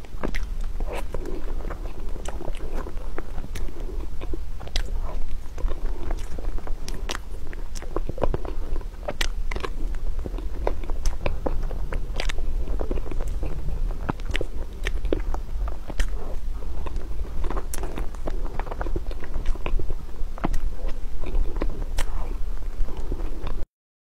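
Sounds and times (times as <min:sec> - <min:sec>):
close chewing mouth clicks: 0:00.0 - 0:23.6
steady low hum: 0:00.0 - 0:23.7.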